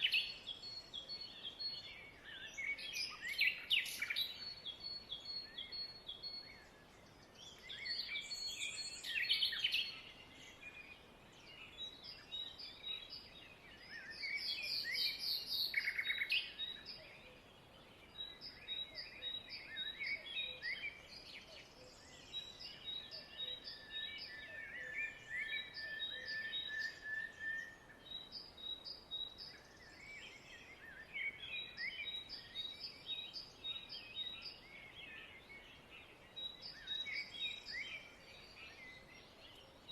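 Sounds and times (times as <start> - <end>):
long steady bird whistle: 0.0 - 11.0, 11.6 - 17.2, 18.2 - 35.6
small birds chirping: 0.0 - 39.9.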